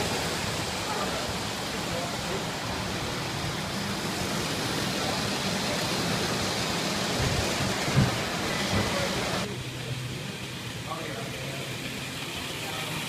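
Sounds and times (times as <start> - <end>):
model trains rattling on track: 0.0 - 13.0.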